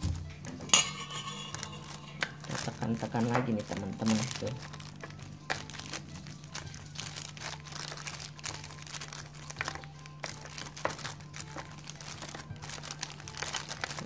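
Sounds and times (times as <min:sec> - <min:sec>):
plastic bag crinkling: 0:00.8 - 0:14.0.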